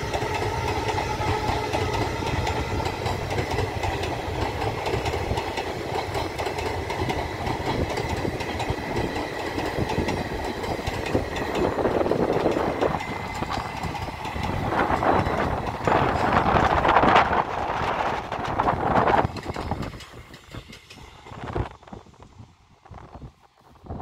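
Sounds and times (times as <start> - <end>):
train wheels clattering over rail joints: 0.0 - 21.8.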